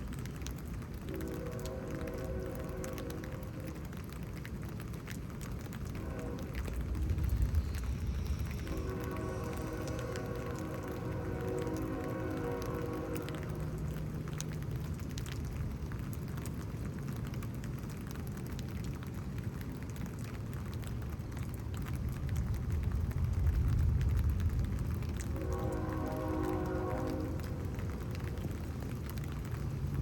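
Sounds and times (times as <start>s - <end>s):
low rumble: 0.0s - 17.6s, 21.8s - 30.0s
steady rain falling: 0.0s - 30.0s.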